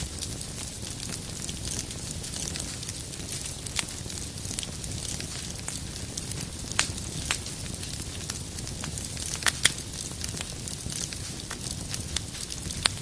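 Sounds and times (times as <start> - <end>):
fire crackling and popping: 0.0 - 13.0
fire rumbling and hissing: 0.0 - 13.0.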